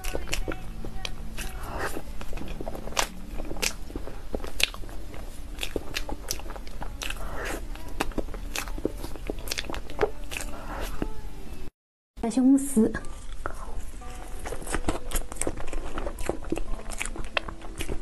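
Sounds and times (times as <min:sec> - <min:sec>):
wet mouth clicks and chewing: 0:00.0 - 0:11.1, 0:13.0 - 0:18.0
faint low hum: 0:00.0 - 0:18.0.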